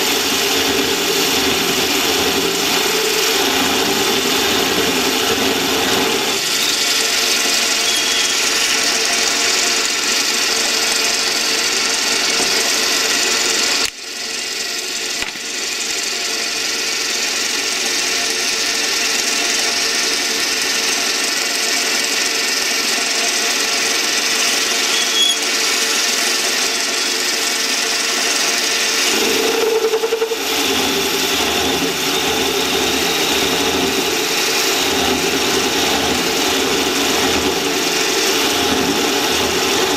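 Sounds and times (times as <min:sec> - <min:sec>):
metal lathe cutting with high hiss: 0:00.0 - 0:39.9.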